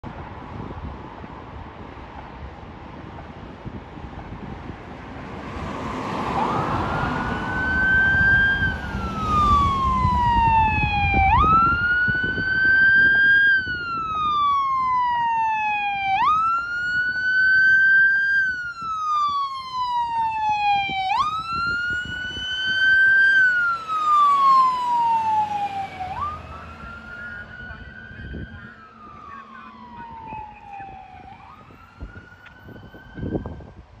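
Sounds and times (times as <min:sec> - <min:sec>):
fire truck siren wailing: 0:05.6 - 0:33.8.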